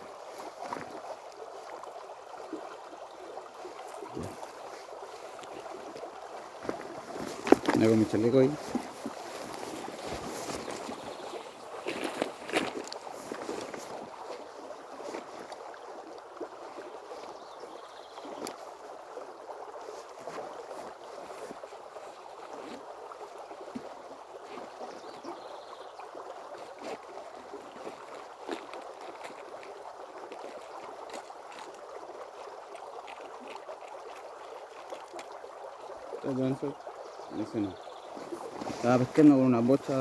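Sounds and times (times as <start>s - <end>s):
river water running: 0.0s - 40.0s.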